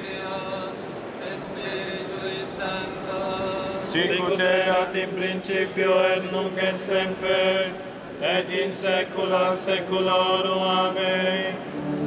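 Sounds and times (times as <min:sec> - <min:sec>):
men chanting a prayer: 0:00.0 - 0:11.6.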